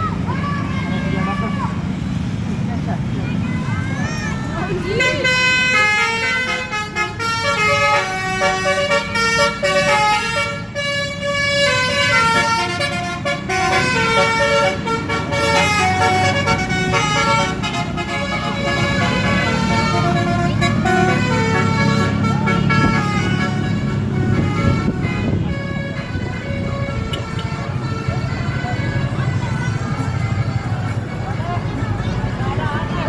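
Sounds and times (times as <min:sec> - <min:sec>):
low engine rumble: 0:00.0 - 0:33.0
multi-tone bus horn melody: 0:04.5 - 0:33.0.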